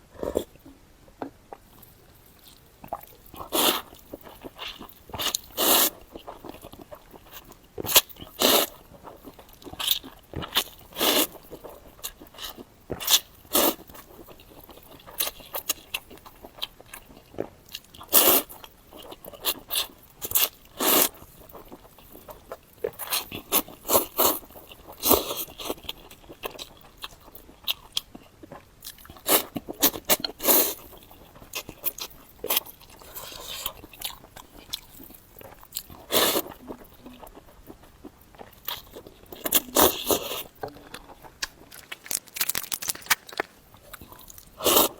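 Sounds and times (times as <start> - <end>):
person chewing noodles: 1.5 - 44.9.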